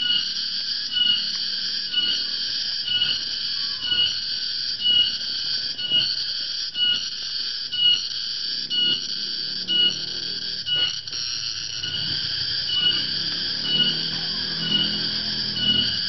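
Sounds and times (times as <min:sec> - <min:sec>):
cicada calling: 0:00.0 - 0:16.0.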